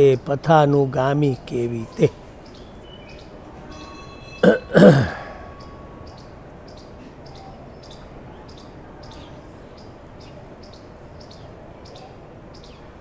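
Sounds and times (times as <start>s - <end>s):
low background noise: 0.0s - 13.0s
bird chirping: 0.5s - 13.0s.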